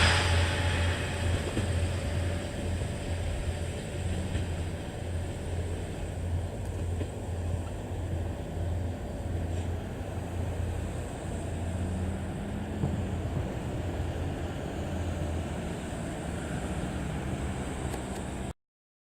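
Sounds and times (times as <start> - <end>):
diesel railcar engine drone: 0.0 - 18.6.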